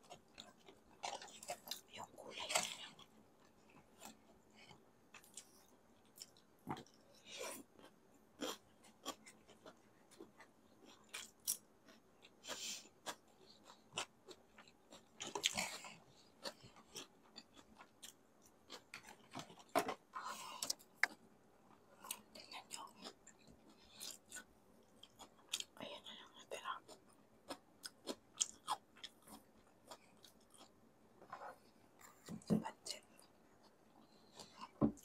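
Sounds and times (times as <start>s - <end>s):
person chewing noodles: 0.0s - 30.8s, 32.9s - 35.0s.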